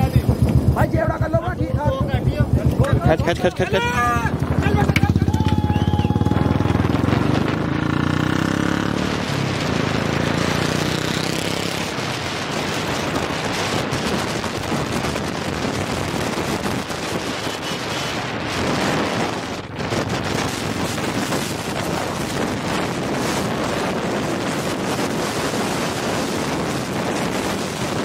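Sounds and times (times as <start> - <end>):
motor vehicle running: 0.0 - 28.0
wind buffeting microphone: 0.0 - 28.0.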